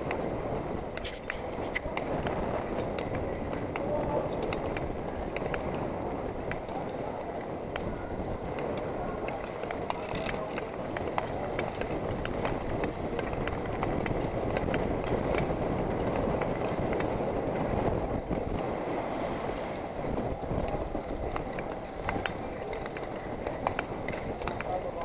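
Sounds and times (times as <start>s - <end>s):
skate blades scraping ice: 0.0s - 25.0s.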